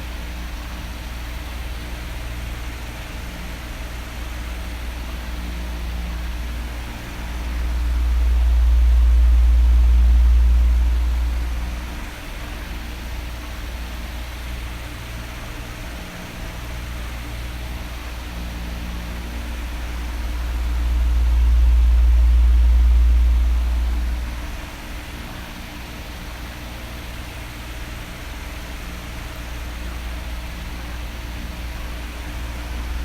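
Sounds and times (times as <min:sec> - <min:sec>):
electric fan running: 0:00.0 - 0:33.0.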